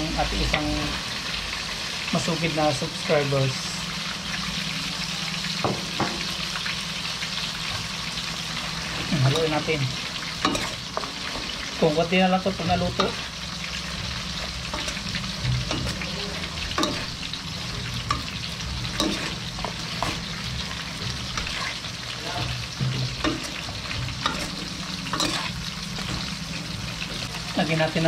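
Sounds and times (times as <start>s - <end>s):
vegetables sizzling in a pan: 0.0s - 28.0s.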